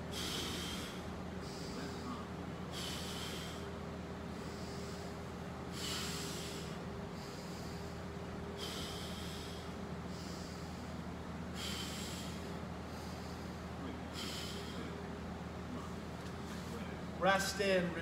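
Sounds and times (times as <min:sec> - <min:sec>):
man breathing deeply: 0:00.0 - 0:16.0
steady low hum: 0:00.0 - 0:18.0.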